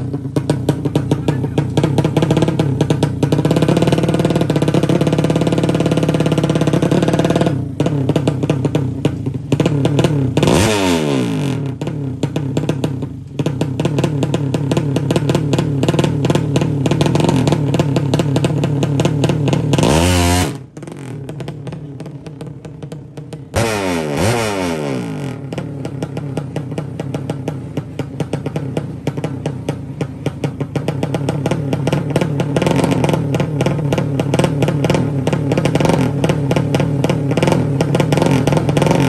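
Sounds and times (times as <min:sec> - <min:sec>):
drag bike engine revving: 0:00.0 - 0:39.0
motorbike pulling away: 0:00.0 - 0:39.0.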